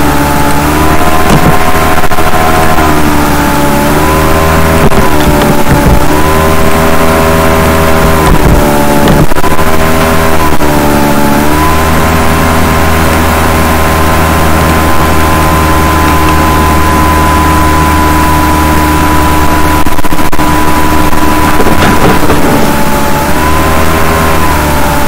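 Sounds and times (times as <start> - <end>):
loud mechanical drone: 0.0 - 25.0.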